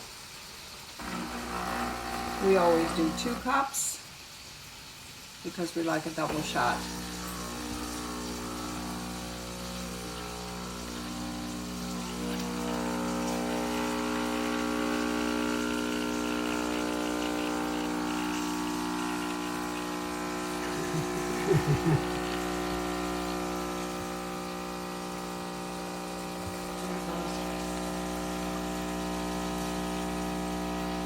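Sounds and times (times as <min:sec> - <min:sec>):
espresso machine pump humming: 0:01.0 - 0:03.8, 0:06.0 - 0:31.0.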